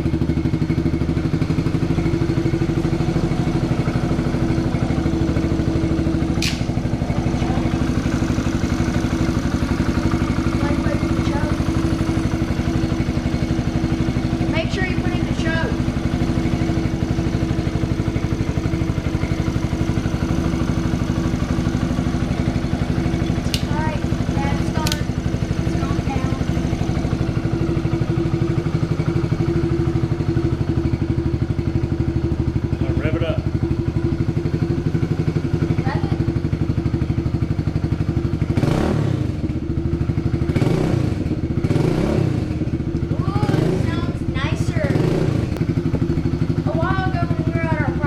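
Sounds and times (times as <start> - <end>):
motorcycle engine idling: 0.0 - 48.0.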